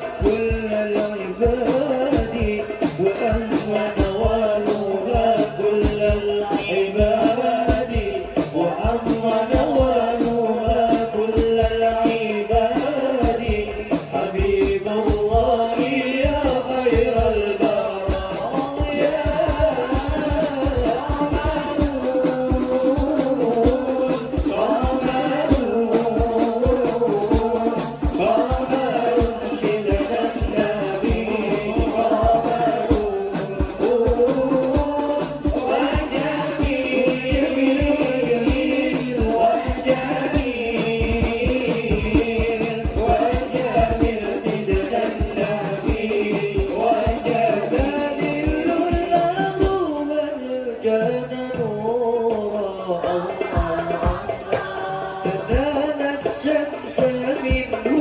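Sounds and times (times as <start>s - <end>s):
frame drums beating: 0.0s - 50.0s, 53.0s - 58.0s
men singing devotional song: 0.0s - 58.0s.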